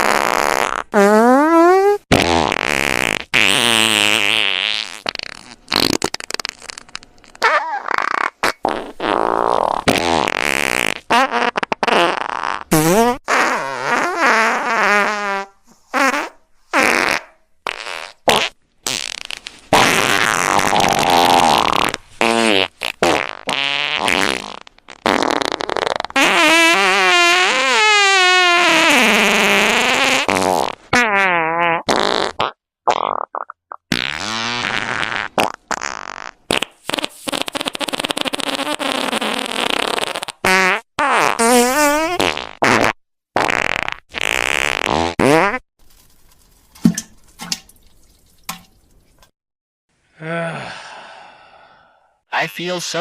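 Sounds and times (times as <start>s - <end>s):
wavering fart noises: 0.0s - 45.6s.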